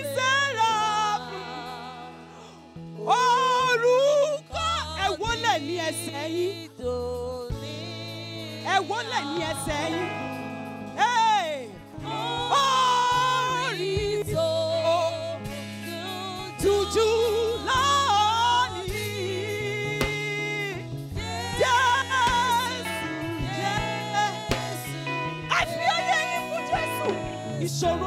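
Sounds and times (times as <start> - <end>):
bass line: 0.0 - 28.0
person singing with vibrato: 0.0 - 28.0.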